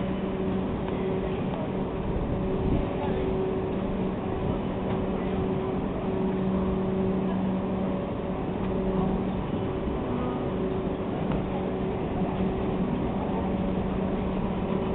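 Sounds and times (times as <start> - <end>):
train mechanical drone: 0.0 - 14.9.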